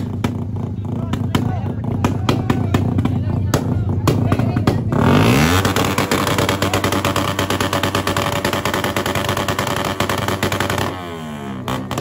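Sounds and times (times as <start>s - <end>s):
exhaust crackling: 0.0s - 12.0s
motorcycle engine revving: 0.0s - 12.0s.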